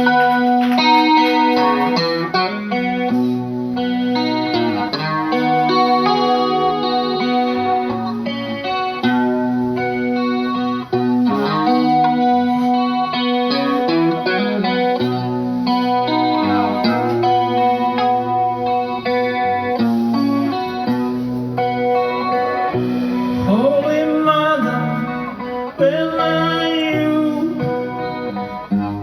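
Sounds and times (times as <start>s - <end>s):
guitar with effects: 0.0s - 29.0s.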